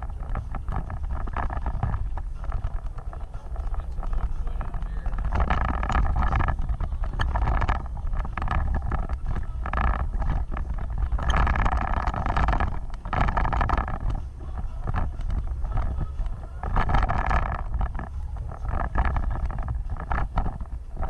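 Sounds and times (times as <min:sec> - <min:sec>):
off-road vehicle driving: 0:00.0 - 0:21.0
wind on microphone: 0:00.0 - 0:21.0.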